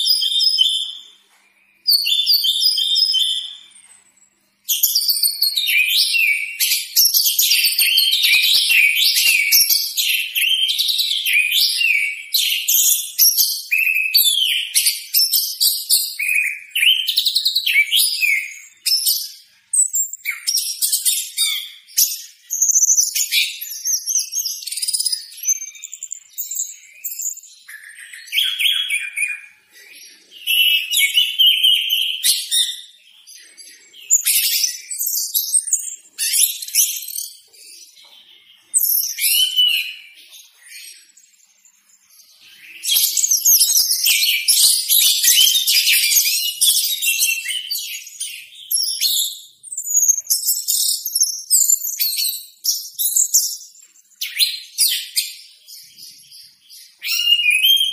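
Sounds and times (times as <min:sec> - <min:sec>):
thrush singing whistles and trills: 0:00.0 - 0:57.9.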